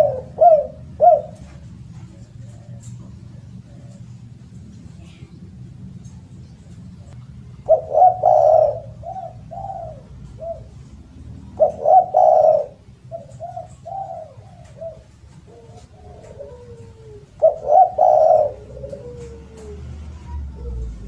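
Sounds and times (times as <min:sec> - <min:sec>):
dove cooing: 0:00.0 - 0:21.0
low background hum: 0:00.0 - 0:21.0.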